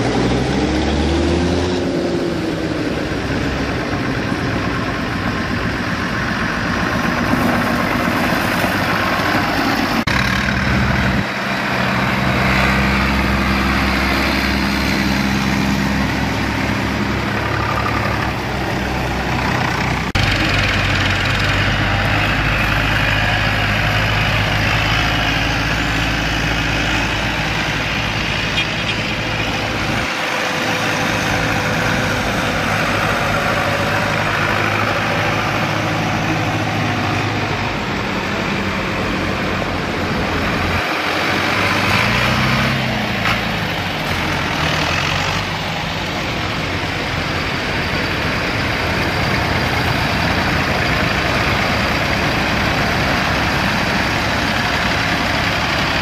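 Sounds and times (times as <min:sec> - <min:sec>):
tractor engines passing: 0:00.0 - 0:56.0.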